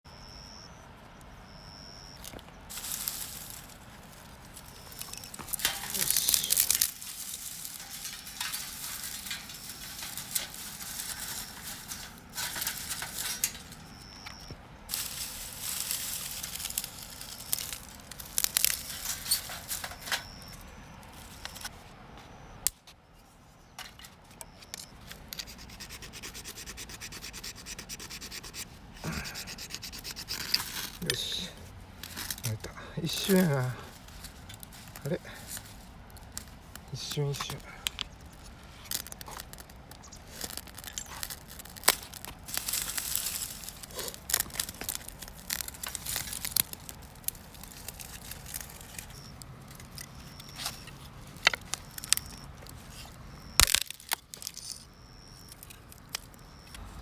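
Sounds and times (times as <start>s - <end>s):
kindling rustling and scraping: 2.2s - 21.8s, 28.3s - 56.9s.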